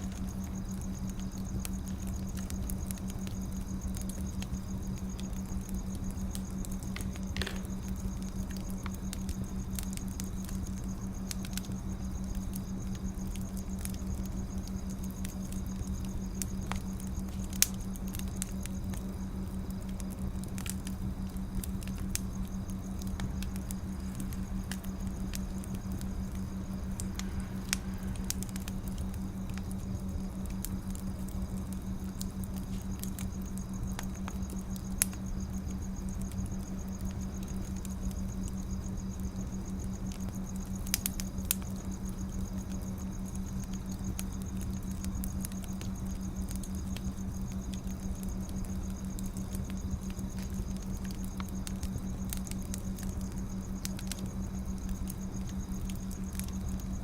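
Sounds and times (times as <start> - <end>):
low steady hum: 0.0 - 57.0
wood fire crackling and popping: 0.0 - 57.0.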